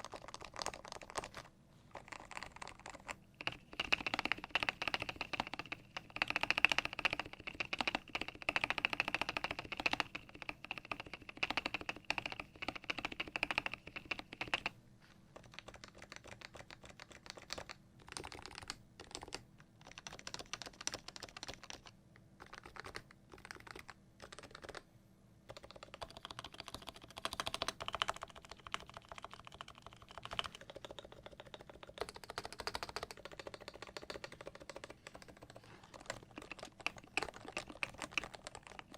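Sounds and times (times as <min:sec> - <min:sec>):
keyboard typing: 0:00.0 - 0:14.8, 0:15.4 - 0:24.8, 0:25.5 - 0:38.9.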